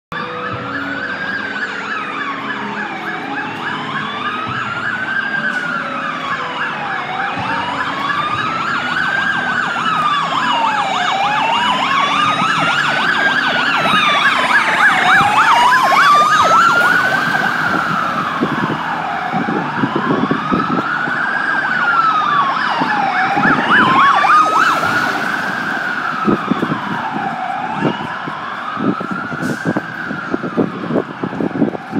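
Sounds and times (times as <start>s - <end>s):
fire truck siren wailing: 0.1s - 31.9s
fire truck siren warbling: 0.1s - 31.9s.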